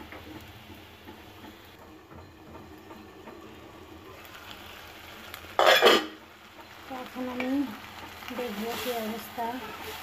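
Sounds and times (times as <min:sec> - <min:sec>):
pot simmering with hiss: 0:00.0 - 0:10.0.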